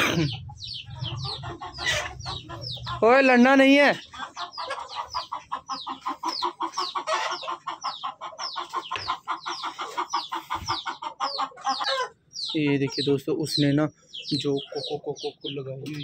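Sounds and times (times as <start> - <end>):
chickens clucking: 0.0 - 16.0
chicks peeping: 0.0 - 16.0.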